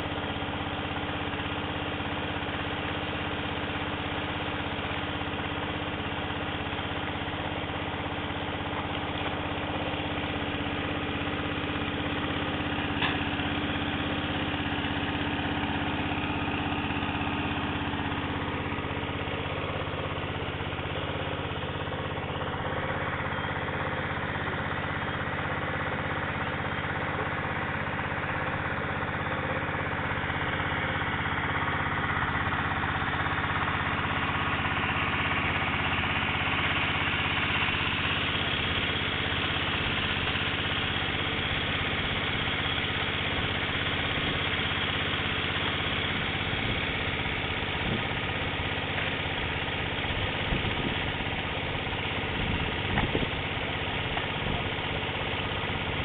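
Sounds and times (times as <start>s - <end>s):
engine-driven water pump running: 0.0s - 56.0s.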